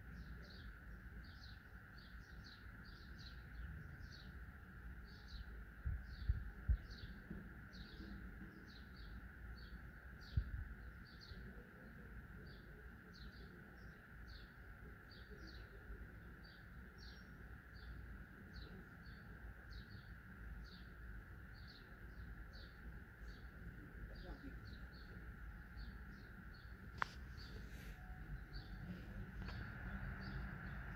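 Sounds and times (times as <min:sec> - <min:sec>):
small bird chirping: 0:00.0 - 0:30.9.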